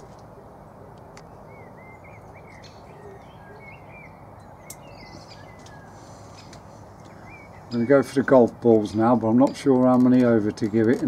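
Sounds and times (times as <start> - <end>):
low outdoor background noise: 0.0 - 11.0
small birds chirping: 0.0 - 11.0.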